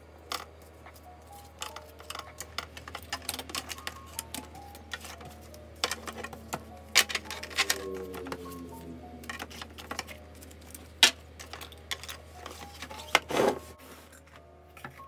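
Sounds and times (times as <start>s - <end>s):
plastic pens clicking and clattering: 0.2s - 13.4s.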